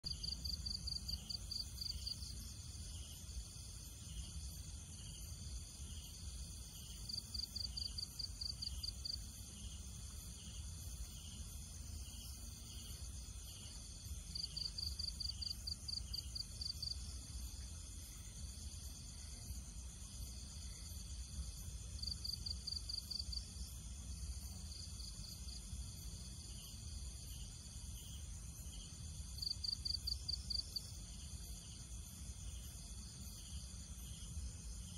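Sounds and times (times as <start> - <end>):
insect chirping trill: 0.0 - 34.9
insects buzzing: 0.1 - 34.9.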